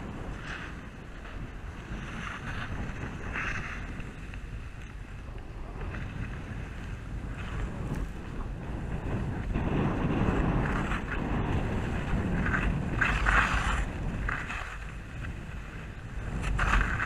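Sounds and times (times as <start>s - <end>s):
skis scraping snow: 0.0s - 17.0s
wind buffeting microphone: 0.0s - 17.0s.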